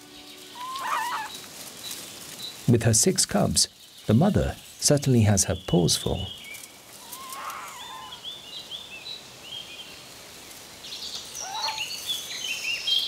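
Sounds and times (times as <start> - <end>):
birds chirping: 0.0 - 13.0
low outdoor hiss: 0.0 - 13.0.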